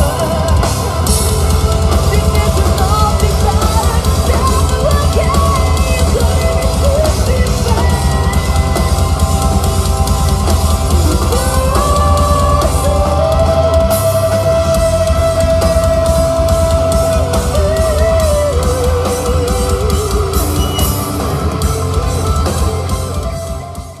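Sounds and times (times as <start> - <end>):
fast driving drums: 0.0 - 24.0
live rock band playing: 0.0 - 24.0.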